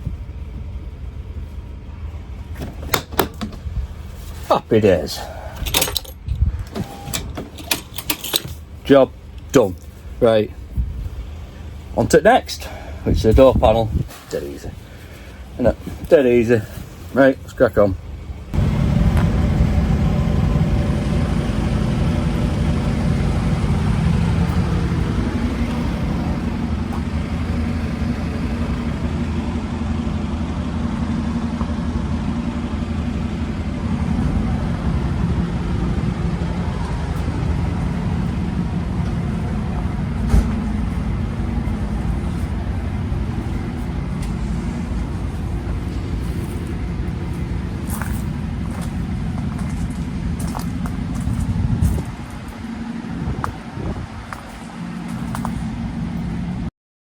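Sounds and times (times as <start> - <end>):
vehicle engine and road noise: 0.0 - 56.7.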